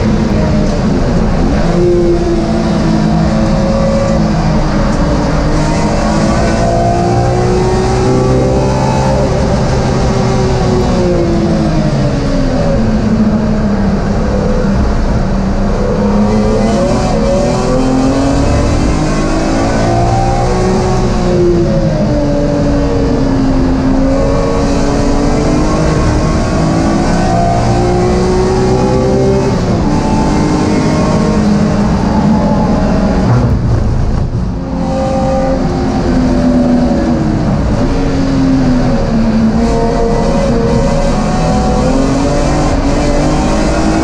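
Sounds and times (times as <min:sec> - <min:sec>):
race car engine revving: 0:00.0 - 0:44.0
road and drivetrain rumble: 0:00.0 - 0:44.0.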